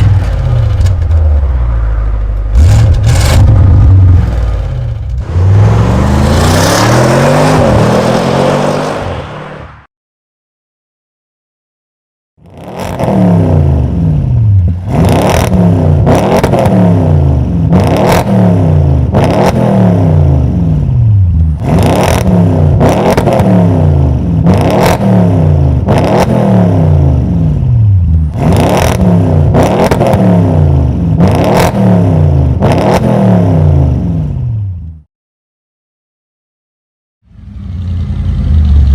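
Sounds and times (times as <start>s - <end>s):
car engine revving: 0.0s - 9.4s, 12.4s - 34.4s.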